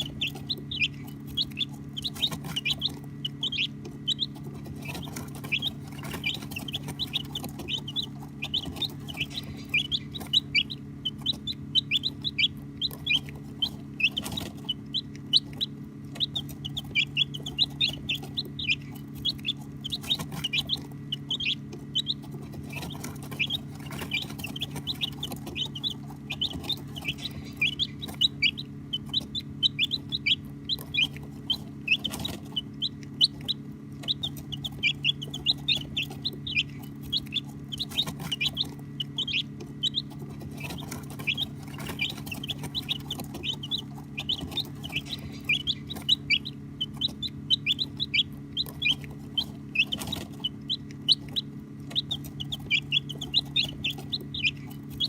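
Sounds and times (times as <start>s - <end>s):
baby chicks peeping: 0.0s - 55.0s
steady low hum: 0.0s - 55.0s.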